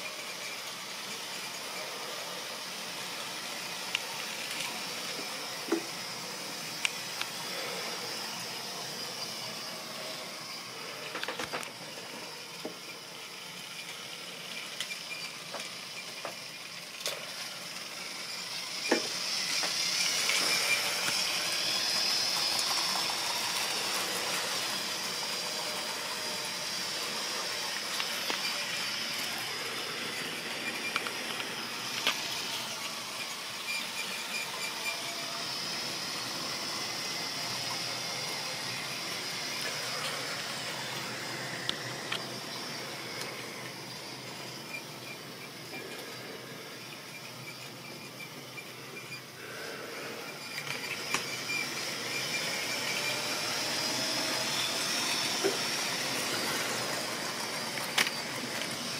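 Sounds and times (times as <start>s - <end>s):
model train whirring: 0.0s - 58.9s.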